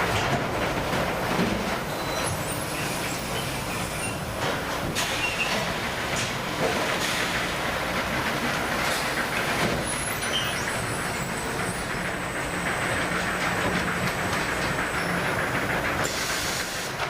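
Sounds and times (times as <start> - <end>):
boat machinery rumbling and rattling: 0.0 - 17.0.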